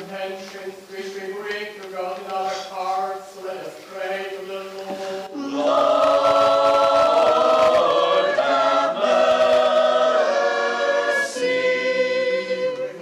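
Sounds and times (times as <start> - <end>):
church choir singing: 0.0 - 13.0.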